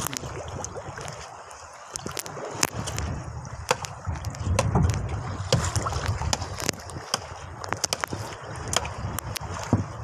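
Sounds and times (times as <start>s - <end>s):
water splashing against boat: 0.0s - 10.0s
wind rumbling on microphone: 0.0s - 10.0s.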